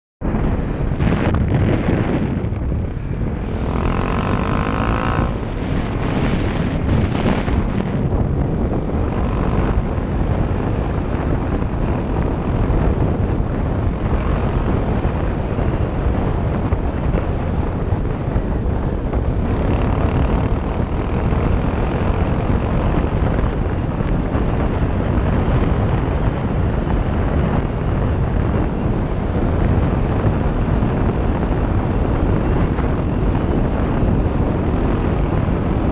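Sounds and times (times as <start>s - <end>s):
motorcycle engine running: 0.2s - 35.9s
wind rumbling on microphone: 0.2s - 35.9s.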